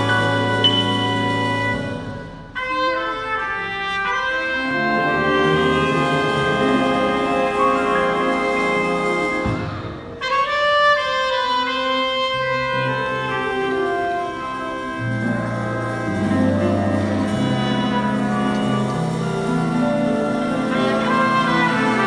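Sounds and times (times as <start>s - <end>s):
big band playing held chords: 0.0s - 22.0s.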